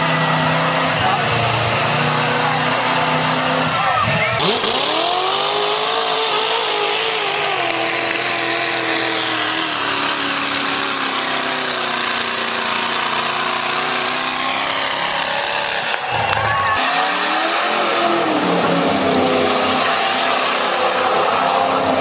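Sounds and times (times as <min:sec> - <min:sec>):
truck engine revving hard: 0:00.0 - 0:22.0.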